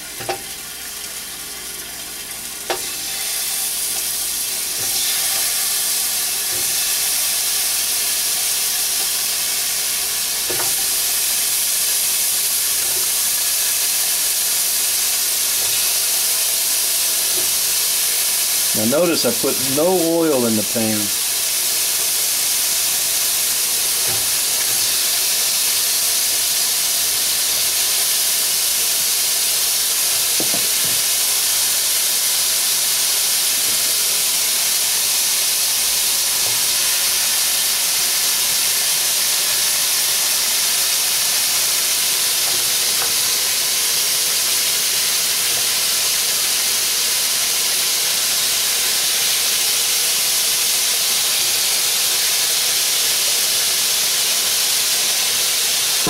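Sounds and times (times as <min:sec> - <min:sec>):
chicken wings sizzling in a pan: 0:00.0 - 0:56.0.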